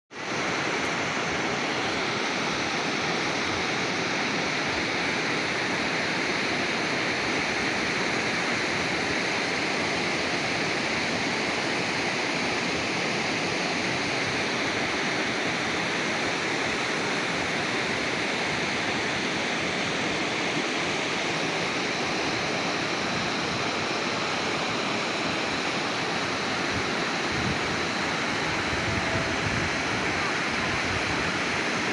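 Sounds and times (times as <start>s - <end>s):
water rushing: 0.2s - 31.9s.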